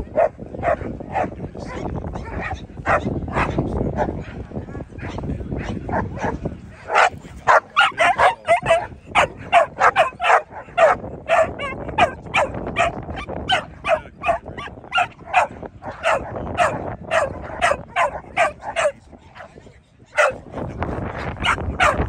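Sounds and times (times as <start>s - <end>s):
dog barking rapidly: 0.1s - 4.4s, 5.0s - 19.5s, 20.2s - 20.4s, 21.2s - 22.0s.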